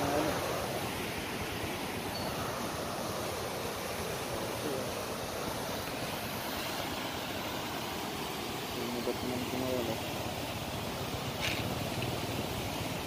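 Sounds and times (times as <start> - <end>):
sea surf rushing: 0.0 - 13.0.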